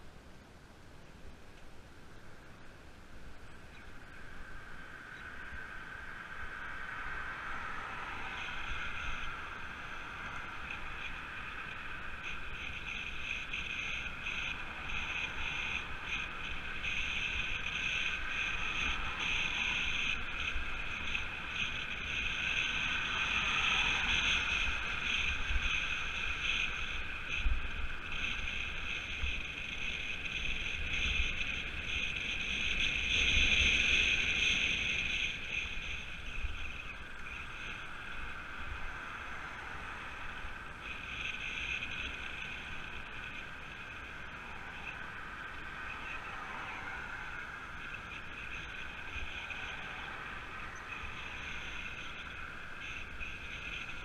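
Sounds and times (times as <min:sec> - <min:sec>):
bike tyres and drivetrain whirring: 0:00.0 - 0:54.0
wind buffeting microphone: 0:03.7 - 0:54.0.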